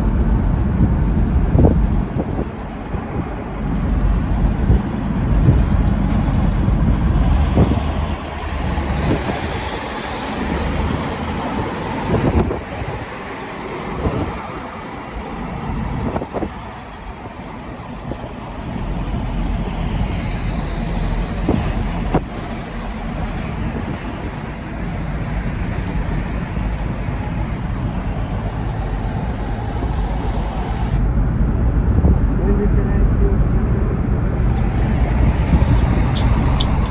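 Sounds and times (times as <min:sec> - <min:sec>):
truck engine and road noise: 0:00.0 - 0:36.9.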